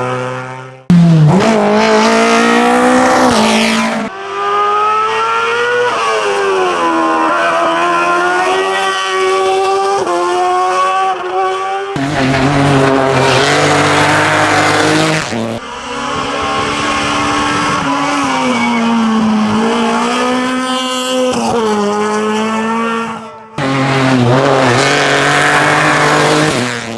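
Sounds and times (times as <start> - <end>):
race car engines at high revs: 0.0 - 26.9.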